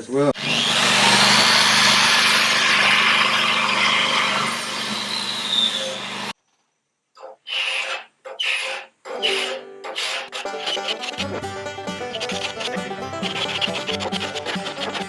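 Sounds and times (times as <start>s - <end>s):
power tool grinding on hull: 0.4s - 6.3s, 8.4s - 15.0s.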